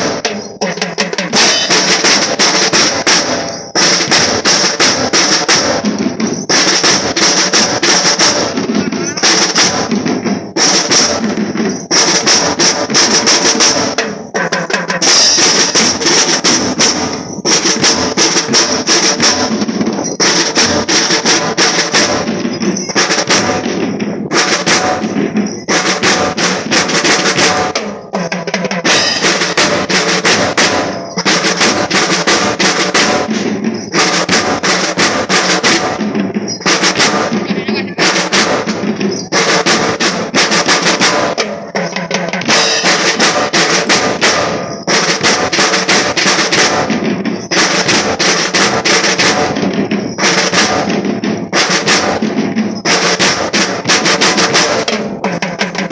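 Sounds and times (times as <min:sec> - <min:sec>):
bass drums: 0:00.0 - 0:55.9
snare drums rolling: 0:00.0 - 0:55.9.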